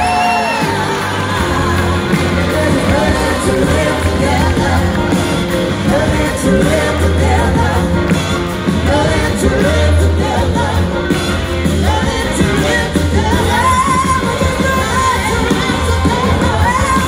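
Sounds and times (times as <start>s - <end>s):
live rock band with horns: 0.0s - 17.0s
singing: 0.0s - 17.0s.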